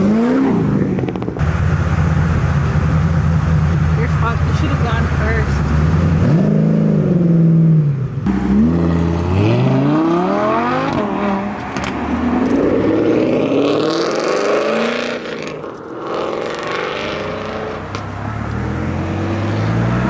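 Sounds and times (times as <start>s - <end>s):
car engine revving hard: 0.0s - 15.5s, 16.1s - 20.0s.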